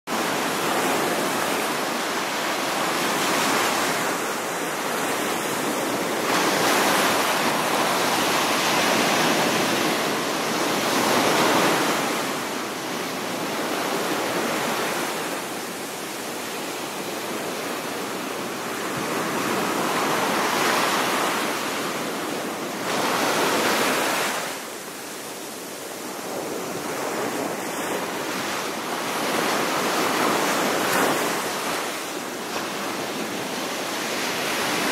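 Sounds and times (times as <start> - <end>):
ocean waves breaking on shore: 0.1 - 34.9.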